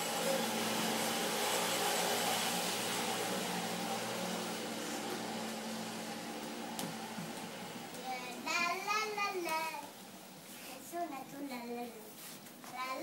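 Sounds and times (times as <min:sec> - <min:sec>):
motor humming with hiss: 0:00.0 - 0:10.9.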